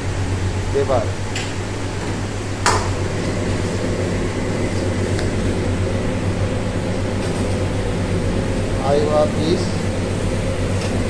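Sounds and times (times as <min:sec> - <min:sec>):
low drone of wok burner: 0:00.0 - 0:11.0.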